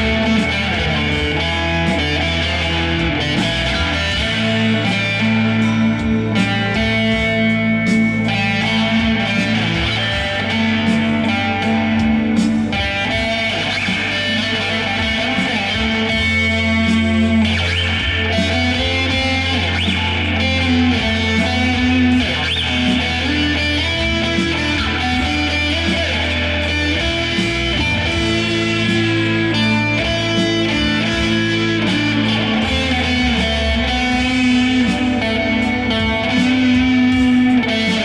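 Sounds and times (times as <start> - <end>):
electric guitar with pitch bends: 0.0 - 38.0.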